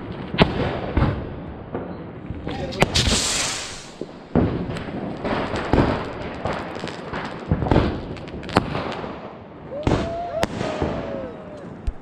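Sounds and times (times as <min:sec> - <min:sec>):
firecrackers crackling: 0:00.0 - 0:12.0
loud firework bangs: 0:00.0 - 0:12.0.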